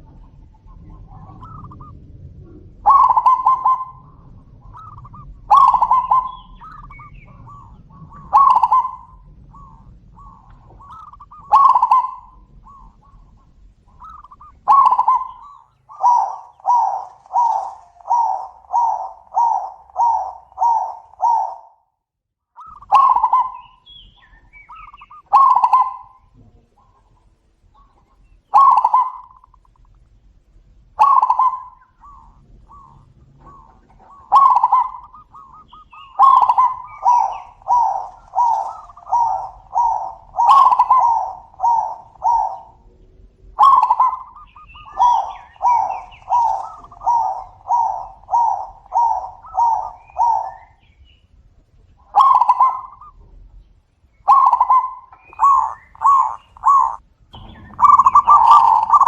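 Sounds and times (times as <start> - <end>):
doves cooing: 0.0 - 21.8, 22.6 - 59.0.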